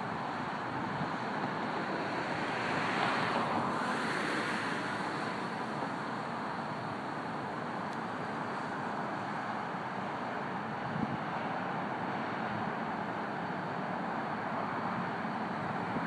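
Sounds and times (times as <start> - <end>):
car tyres hissing on road: 0.0 - 16.0.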